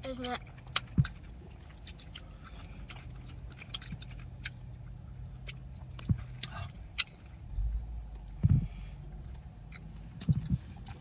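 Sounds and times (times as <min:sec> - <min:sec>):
low steady hum: 0:00.0 - 0:11.0
people chewing gummy sweets: 0:00.0 - 0:11.0.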